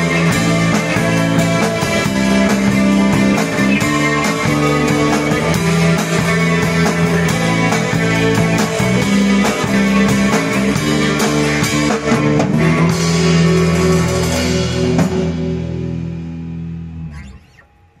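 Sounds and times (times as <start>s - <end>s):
rock band playing live: 0.0s - 17.4s.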